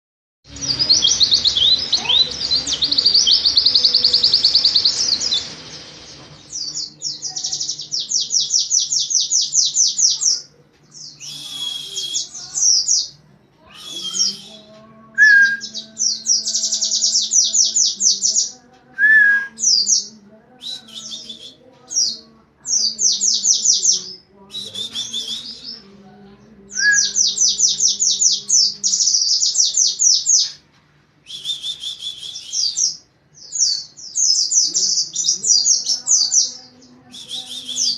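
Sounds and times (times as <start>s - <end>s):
bird singing rapid high song: 0.5s - 25.9s, 26.7s - 30.6s, 31.3s - 37.9s.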